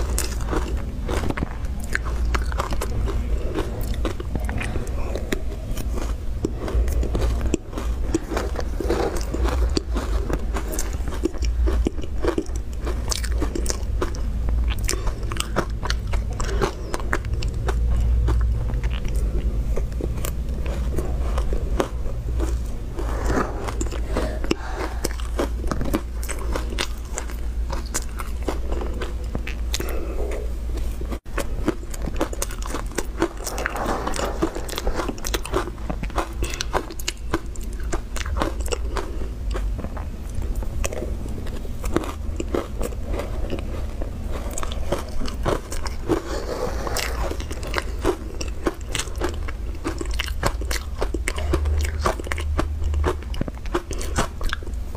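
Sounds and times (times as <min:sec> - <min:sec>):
chewing crunchy ice: 0:00.0 - 0:54.9.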